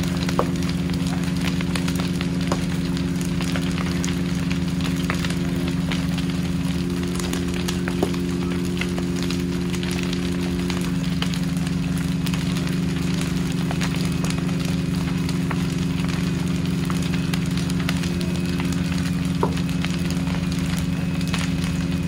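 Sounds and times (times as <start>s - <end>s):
burning building crackling: 0.0s - 22.0s
engine droning: 0.0s - 22.0s.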